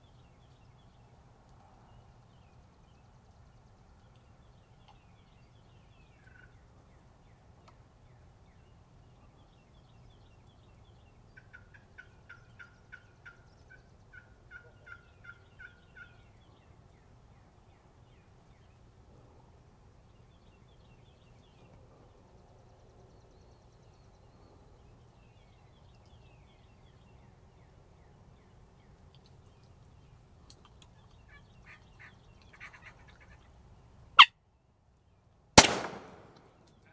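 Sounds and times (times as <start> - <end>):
faint songbird chirping: 0.0 - 19.1, 19.8 - 36.9.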